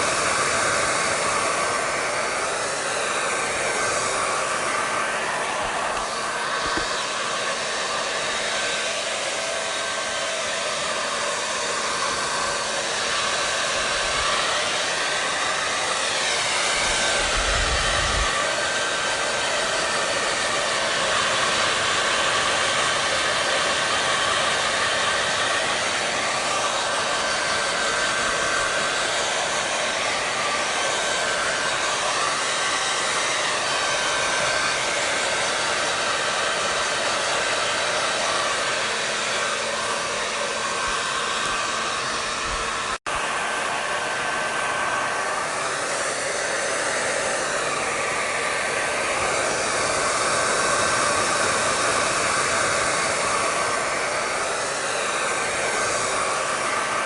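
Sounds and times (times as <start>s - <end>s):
hair dryer blowing air: 0.0s - 57.0s.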